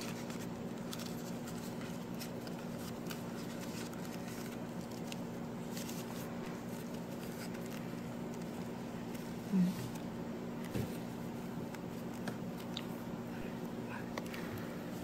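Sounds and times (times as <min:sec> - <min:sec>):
banana leaf rustling and crinkling: 0:00.0 - 0:12.8
steady low hum: 0:00.0 - 0:15.0.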